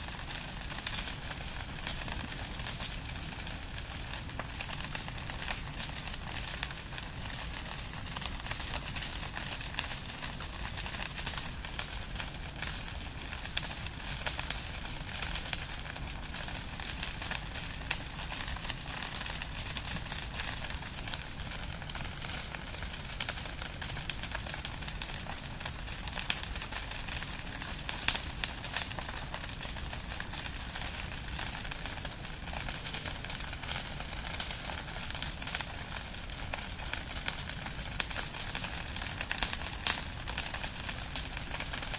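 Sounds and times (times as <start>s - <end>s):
firewood burning and crackling: 0.0s - 41.9s.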